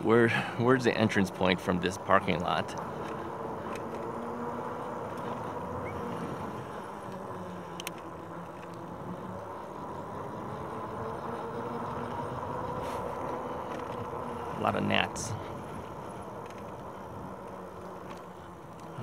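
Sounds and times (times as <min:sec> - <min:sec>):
bike tyre and riding noise: 0:00.0 - 0:19.0
faint motor hum: 0:00.0 - 0:19.0.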